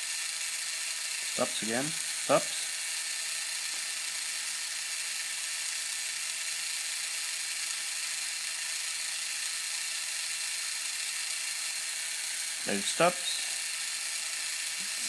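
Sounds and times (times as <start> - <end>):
gear motor whirring: 0.0 - 15.0.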